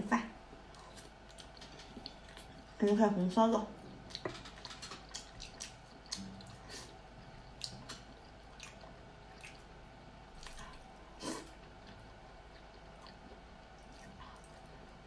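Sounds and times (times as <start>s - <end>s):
wet chewing and smacking: 0.6s - 2.8s, 3.8s - 10.9s, 11.5s - 14.7s.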